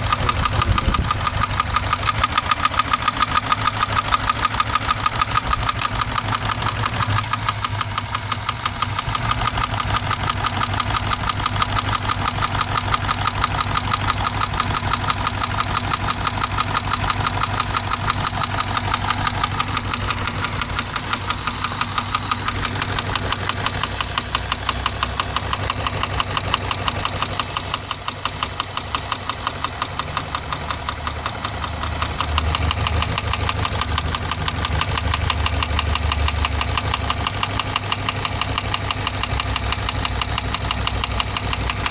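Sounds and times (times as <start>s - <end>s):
engine running with knock: 0.0s - 41.9s.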